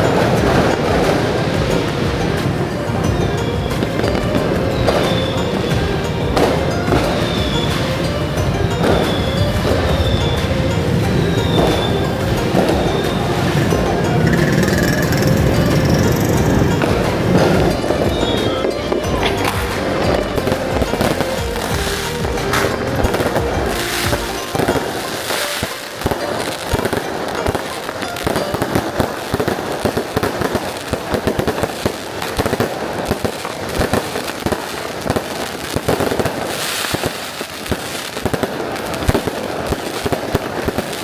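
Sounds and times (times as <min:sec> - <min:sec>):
fireworks popping and banging: 0:00.0 - 0:41.0.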